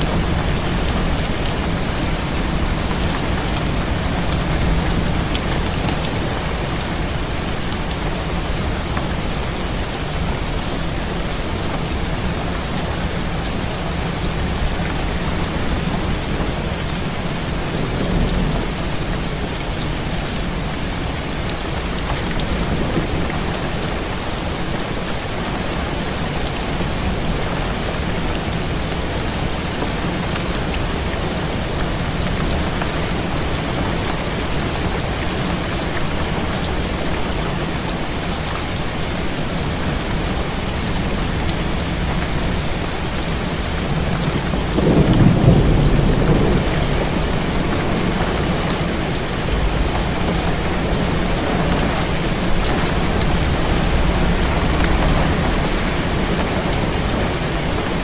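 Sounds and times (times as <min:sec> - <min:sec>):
heavy rain on a window: 0:00.0 - 0:58.0.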